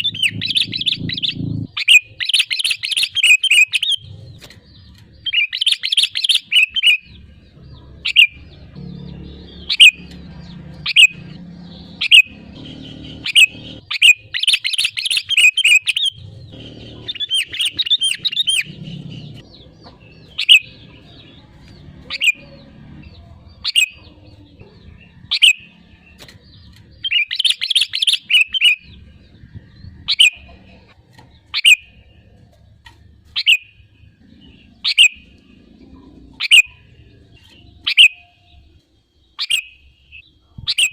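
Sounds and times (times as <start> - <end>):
bird chattering: 0.0 - 32.4, 33.2 - 38.4, 39.3 - 40.9
bird chirping: 0.0 - 40.9.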